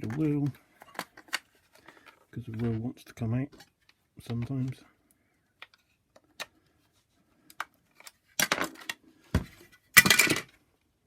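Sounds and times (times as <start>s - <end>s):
plastic parts clicking and clattering: 0.0s - 4.8s, 5.6s - 6.6s, 7.4s - 10.7s.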